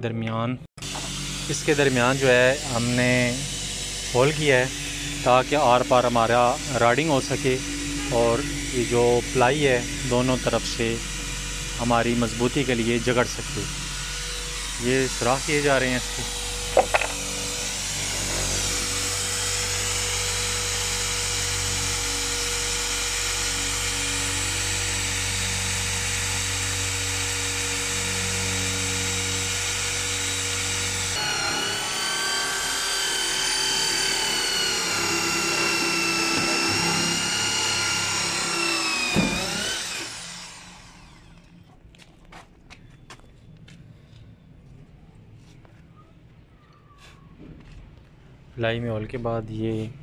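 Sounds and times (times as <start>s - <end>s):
electric drill boring plywood: 0.8s - 41.7s.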